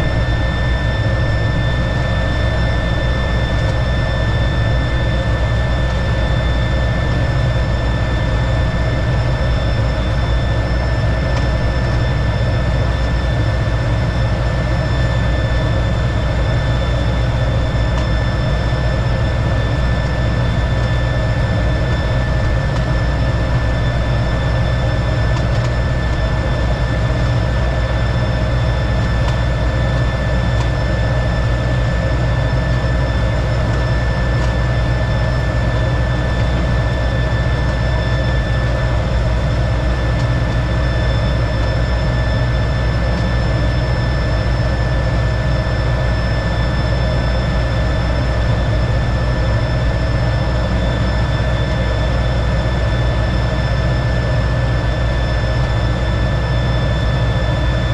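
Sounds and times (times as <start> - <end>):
jet engine running: 0.0 - 57.9.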